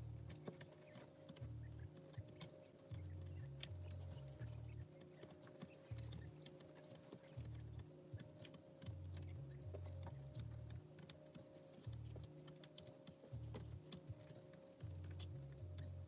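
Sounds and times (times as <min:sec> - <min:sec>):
chicks pecking taps: 0:00.0 - 0:16.0.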